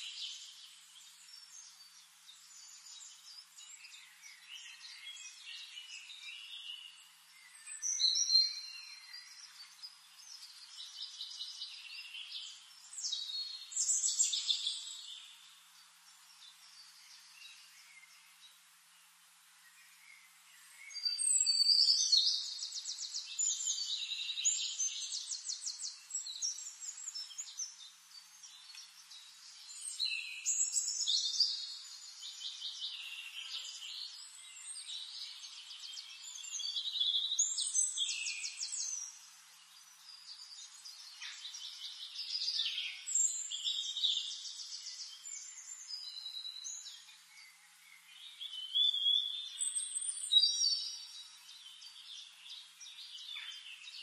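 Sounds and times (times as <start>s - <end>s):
songbirds trilling and chirping: 0.0s - 54.0s.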